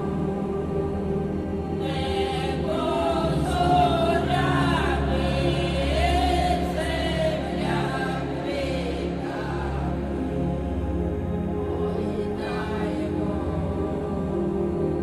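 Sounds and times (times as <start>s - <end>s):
choir-like voices singing: 0.0s - 15.0s.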